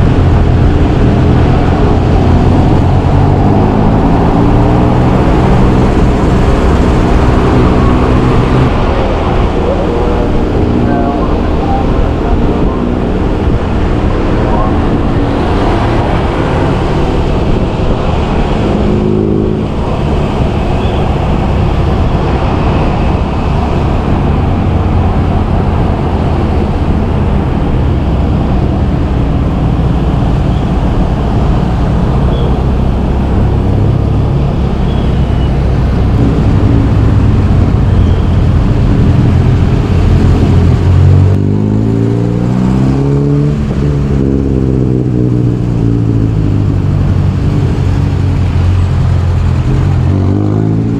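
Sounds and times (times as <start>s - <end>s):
road and traffic noise: 0.0s - 50.9s.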